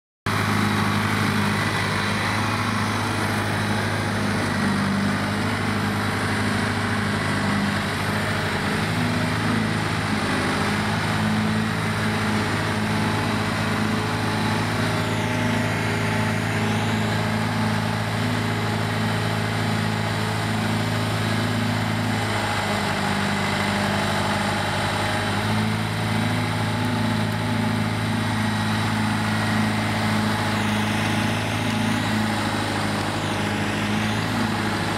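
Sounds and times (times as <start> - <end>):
backhoe engine running: 0.3 - 34.9.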